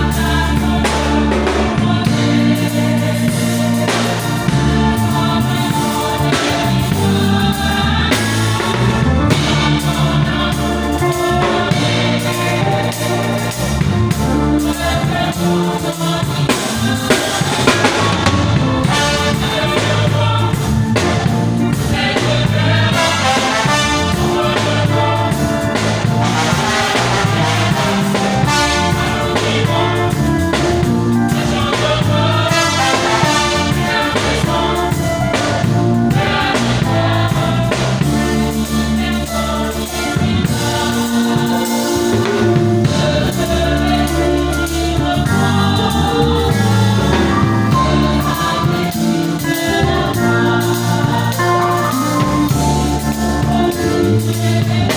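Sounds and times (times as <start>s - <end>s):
bass: 0.0s - 54.9s
choir singing: 0.0s - 54.9s
drums: 0.0s - 54.9s.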